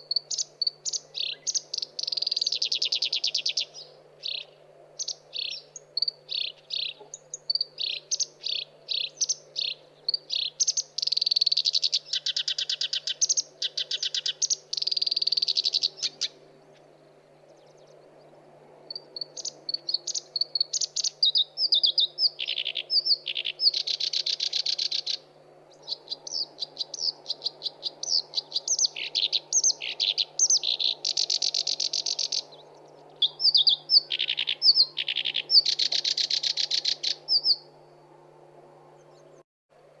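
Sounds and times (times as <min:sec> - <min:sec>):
reed warbler singing: 0:00.0 - 0:38.1.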